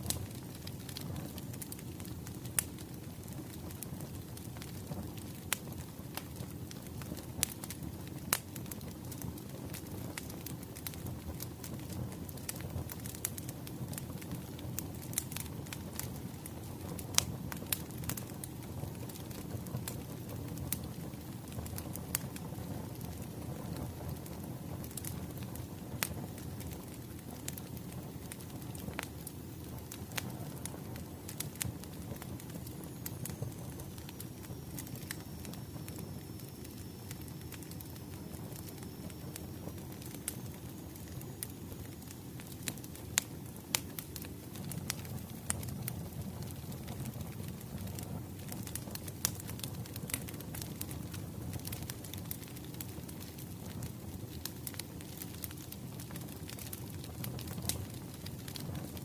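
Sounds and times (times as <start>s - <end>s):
low rustle of flame: 0.0s - 59.0s
wood fire popping and crackling: 0.0s - 59.0s.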